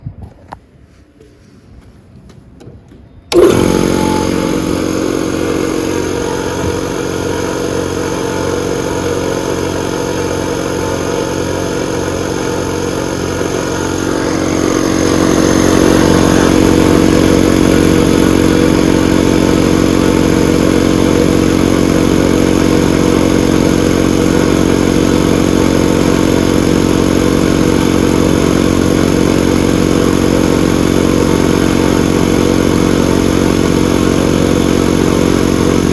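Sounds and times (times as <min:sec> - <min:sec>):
air compressor running: 0:03.3 - 0:35.9.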